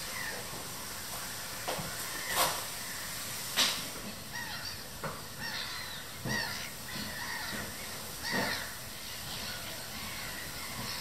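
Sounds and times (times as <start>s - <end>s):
waterbirds calling: 0.0s - 11.0s.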